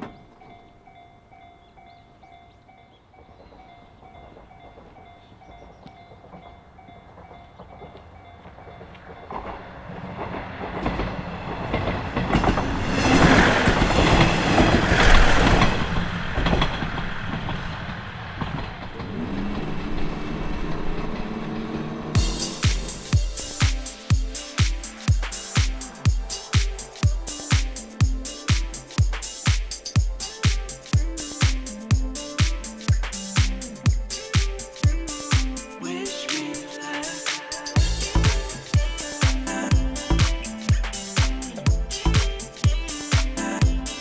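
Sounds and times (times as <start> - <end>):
train passing: 0.0 - 44.0
train wheels clacking on rails: 3.1 - 44.0.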